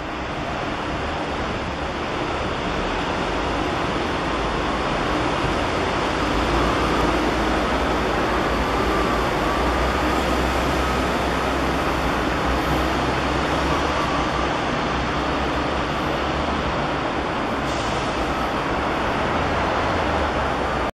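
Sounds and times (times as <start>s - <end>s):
distant road traffic: 0.0s - 20.9s.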